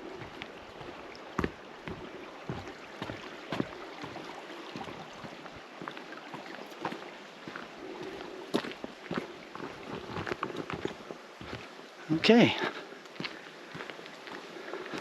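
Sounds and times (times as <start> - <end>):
footsteps on forest trail: 0.0 - 15.0
steady outdoor hiss: 0.0 - 15.0.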